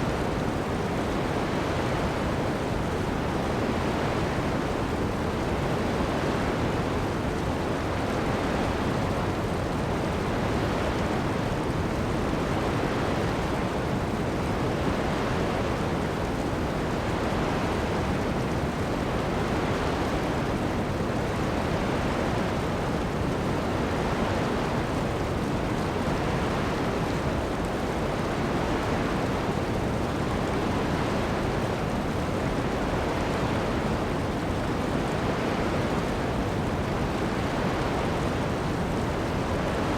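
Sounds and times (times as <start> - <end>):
heavy rain: 0.0 - 39.9
waves washing onto beach: 0.0 - 39.9.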